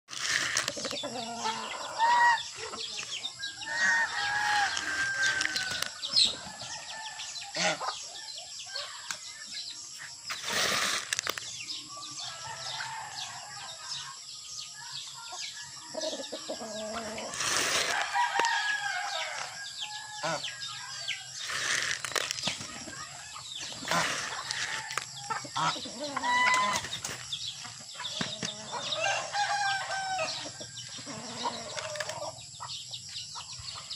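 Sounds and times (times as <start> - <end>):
chickens clucking: 0.1 - 6.9, 7.5 - 12.7, 15.0 - 33.9
roosters crowing: 0.1 - 8.1, 10.4 - 14.0, 15.7 - 27.2, 27.8 - 32.5.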